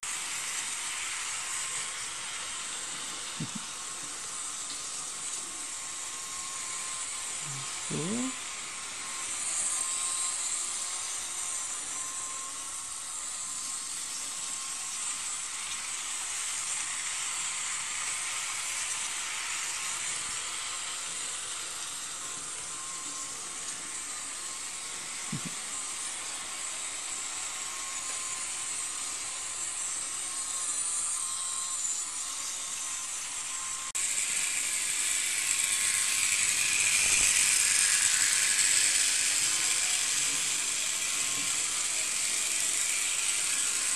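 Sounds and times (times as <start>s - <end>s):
model train motor whirring: 0.0s - 43.9s.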